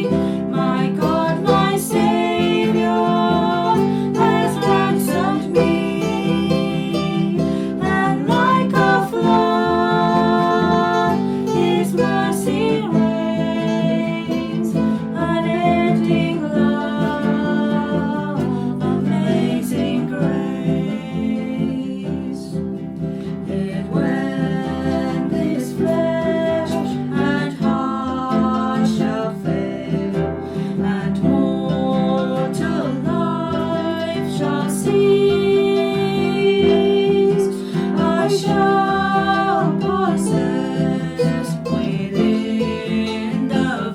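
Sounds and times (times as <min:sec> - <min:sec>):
acoustic guitar music: 0:00.0 - 0:43.9.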